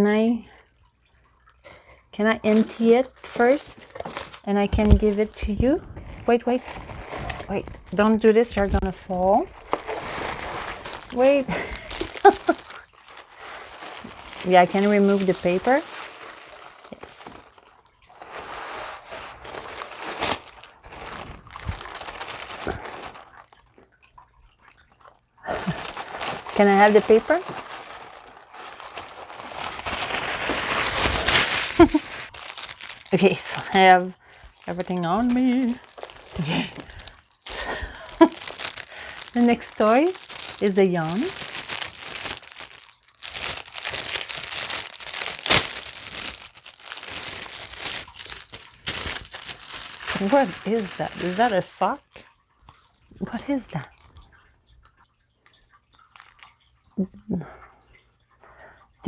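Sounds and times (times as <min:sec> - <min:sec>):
packing paper crinkling: 0:02.4 - 0:51.8, 0:56.0 - 0:56.5
sharp paper crackle: 0:02.5 - 0:23.8, 0:25.4 - 0:51.7, 0:56.1 - 0:56.5.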